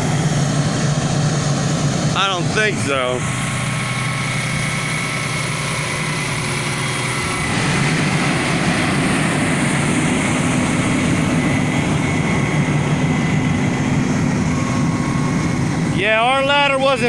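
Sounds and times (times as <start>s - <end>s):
fire truck diesel engine running: 0.0s - 17.0s.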